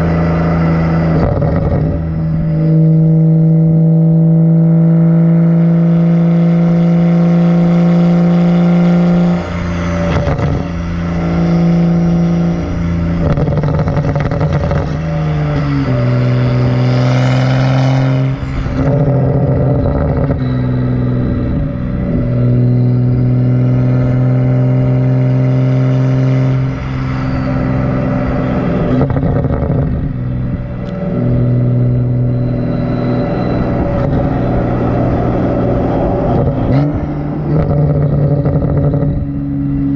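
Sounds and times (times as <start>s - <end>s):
loud car exhaust drone: 0.0s - 39.9s.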